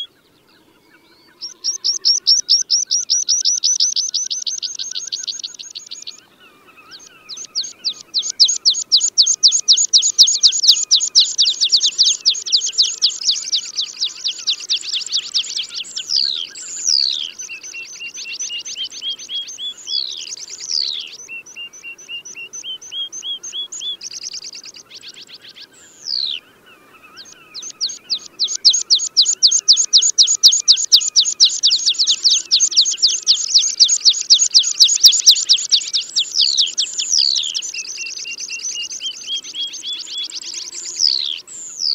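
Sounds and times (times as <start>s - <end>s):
bird song with fast trills: 0.0s - 41.9s.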